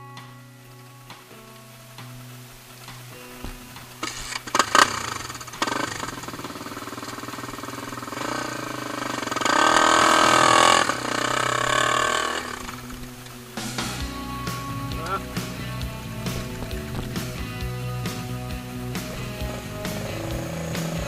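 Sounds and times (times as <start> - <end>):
dirt bike engine revving: 0.8 - 21.0.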